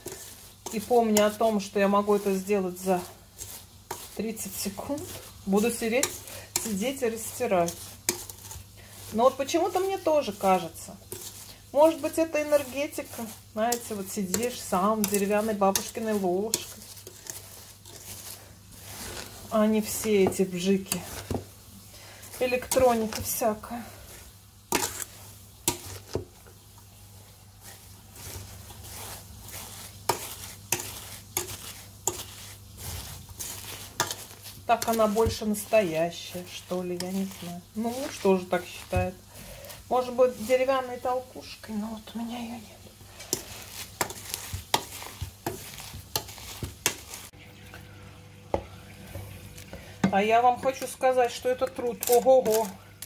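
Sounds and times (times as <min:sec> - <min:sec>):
spoon mashing berries: 0:00.0 - 0:53.0.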